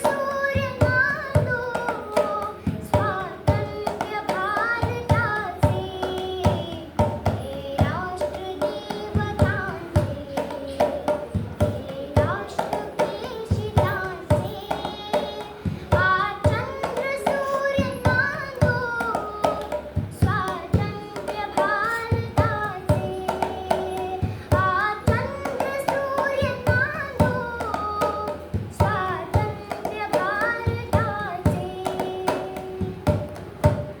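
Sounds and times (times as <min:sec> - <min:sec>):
girl singing: 0:00.0 - 0:34.0
percussion beat: 0:00.0 - 0:34.0.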